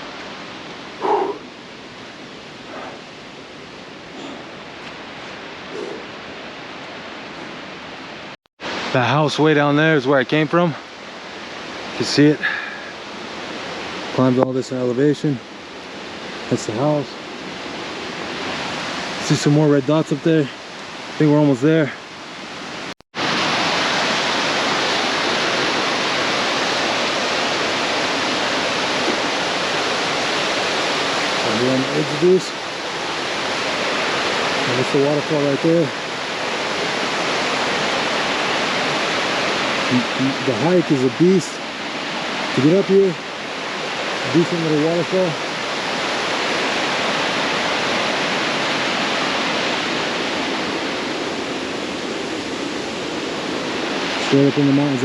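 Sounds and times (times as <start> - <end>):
waterfall rushing: 0.0 - 14.4, 15.7 - 55.0.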